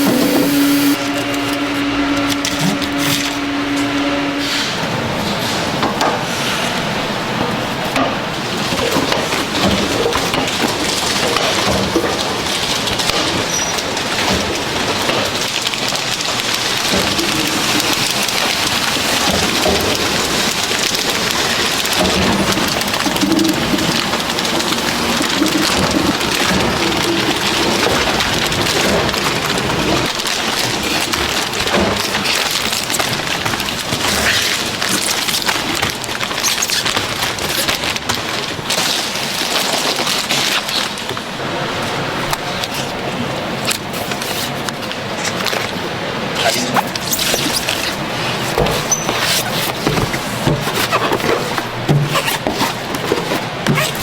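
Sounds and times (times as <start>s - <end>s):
machinery clattering: 0.0s - 6.3s, 7.4s - 46.3s.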